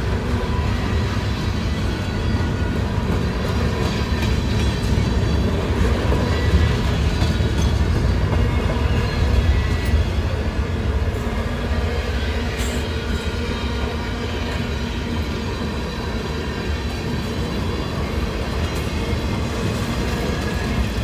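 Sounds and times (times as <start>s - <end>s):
freight cars rolling on rails: 0.0s - 21.0s.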